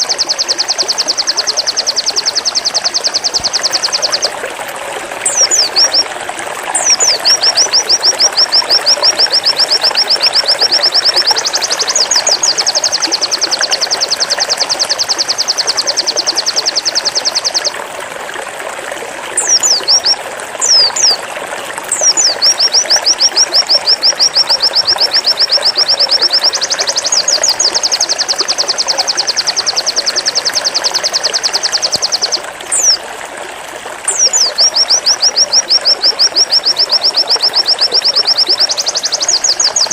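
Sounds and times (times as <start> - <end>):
bird singing whistles and trills: 0.0 - 4.4, 5.2 - 6.1, 6.7 - 17.8, 19.4 - 33.0, 34.1 - 39.9.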